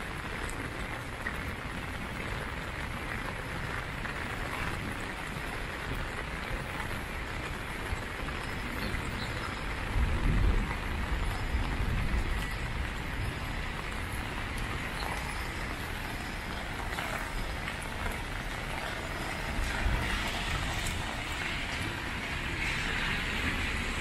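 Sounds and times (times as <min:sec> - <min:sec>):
heavy rain on street: 0:00.0 - 0:24.0.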